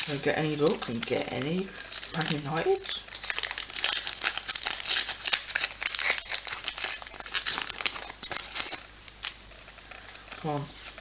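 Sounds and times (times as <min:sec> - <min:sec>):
card pack wrapper crinkling and tearing: 0:00.0 - 0:11.0.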